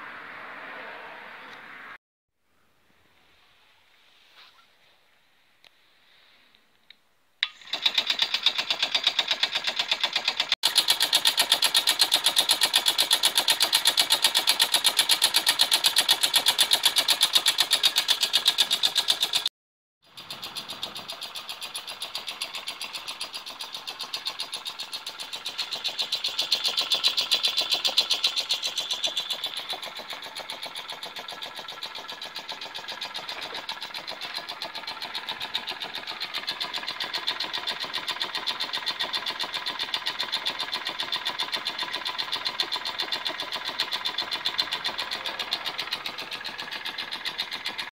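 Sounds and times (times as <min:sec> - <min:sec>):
air compressor clattering: 0:07.4 - 0:19.5, 0:20.1 - 0:47.9.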